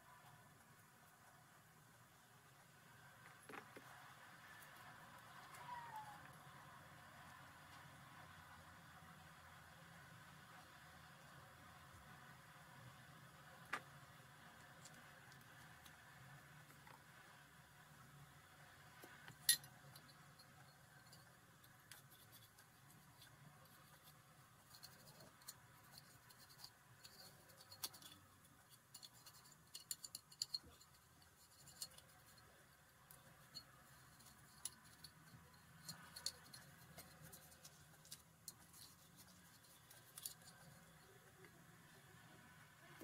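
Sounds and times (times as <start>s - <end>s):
light clicks and scratches: 2.4s - 43.0s.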